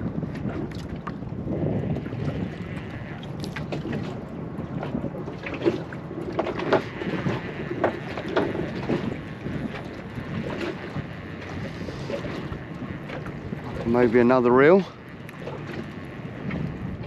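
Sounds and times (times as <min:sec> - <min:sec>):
water lapping against boat hull: 0:00.0 - 0:17.0
wind buffeting microphone: 0:00.0 - 0:17.0.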